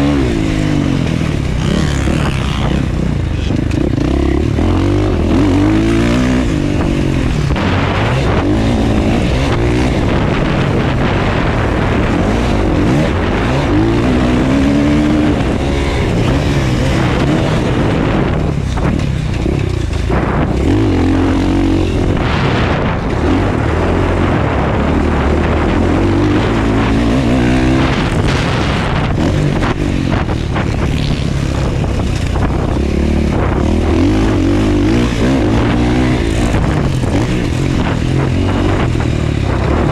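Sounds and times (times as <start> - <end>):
dirt bike engine revving: 0.0 - 39.9
wind and track noise: 0.0 - 39.9.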